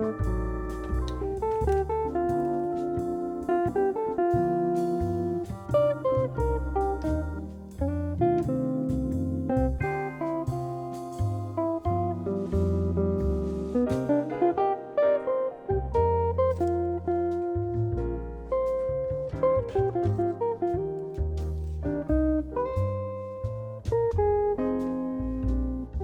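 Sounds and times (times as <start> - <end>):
bass line: 0.0 - 14.8, 15.7 - 26.0
plucked guitar music: 0.0 - 26.0.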